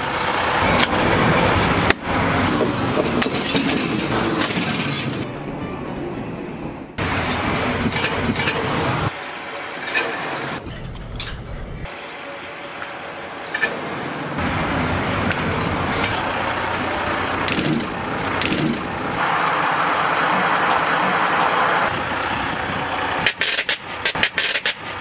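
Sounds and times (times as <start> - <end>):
rail wagon wheels rumbling: 0.0 - 6.1, 7.0 - 10.6, 12.8 - 25.0.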